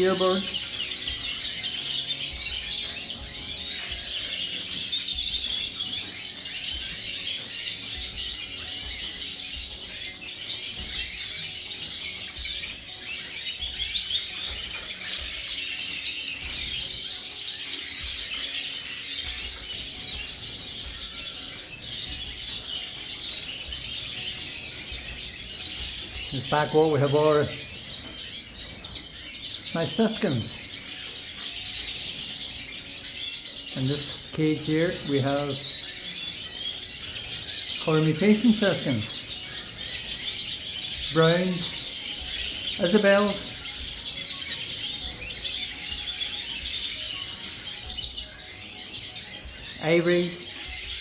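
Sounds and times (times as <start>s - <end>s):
caged birds chirping and twittering: 0.0s - 51.0s.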